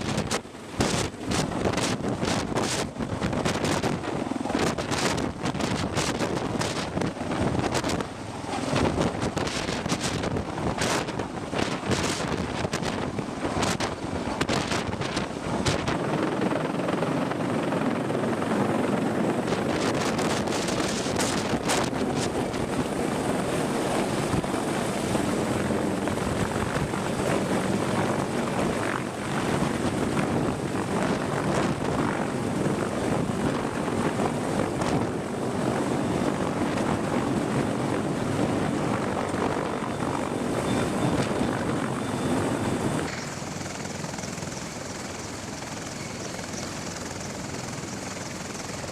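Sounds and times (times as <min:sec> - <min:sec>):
helicopter rotor and engines droning: 0:00.0 - 0:48.9.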